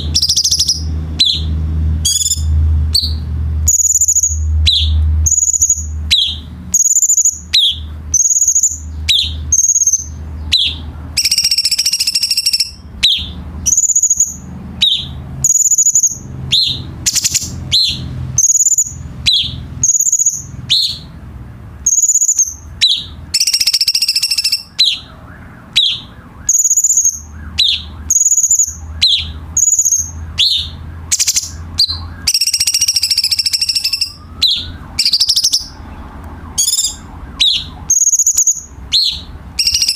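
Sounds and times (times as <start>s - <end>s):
bird chattering trill: 0.0s - 21.2s, 21.8s - 39.9s
bird whistled song: 0.0s - 21.2s, 21.8s - 39.9s.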